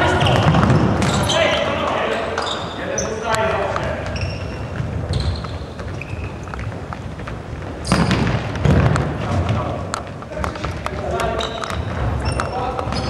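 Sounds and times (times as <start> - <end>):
sneaker squeaks: 0.0 - 13.0.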